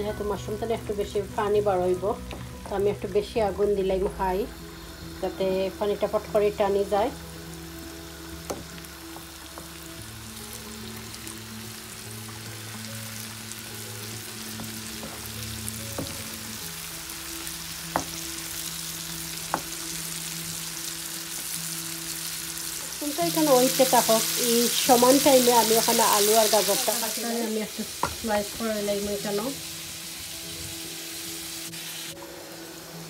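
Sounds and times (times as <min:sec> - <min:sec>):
mushrooms sizzling in frying pan: 0:00.0 - 0:33.0.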